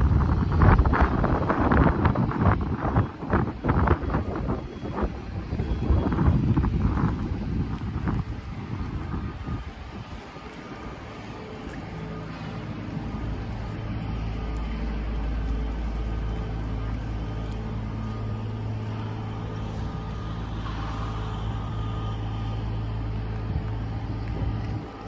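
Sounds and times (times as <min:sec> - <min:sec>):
low hum: 0:00.0 - 0:25.0
wind buffeting microphone: 0:00.0 - 0:25.0.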